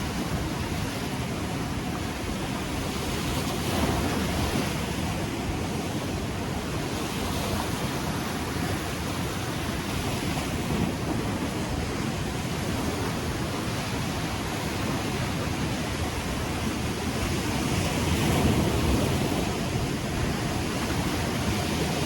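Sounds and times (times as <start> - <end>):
ocean surf washing on shore: 0.0 - 22.0
wind buffeting microphone: 0.0 - 22.0.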